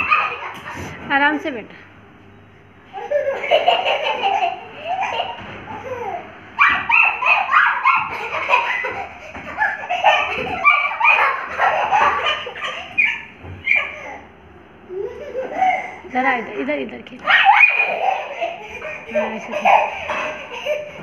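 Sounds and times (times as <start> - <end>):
child laughing: 0.0 - 1.0, 2.9 - 21.0.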